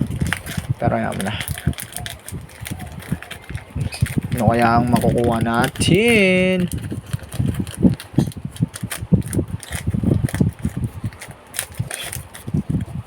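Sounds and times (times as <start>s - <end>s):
wrapper and cards rustling: 0.0s - 13.0s.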